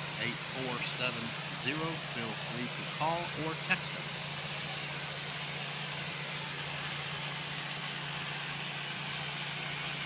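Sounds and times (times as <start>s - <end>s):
constant hiss: 0.0s - 10.0s
engine running steadily: 0.0s - 10.0s.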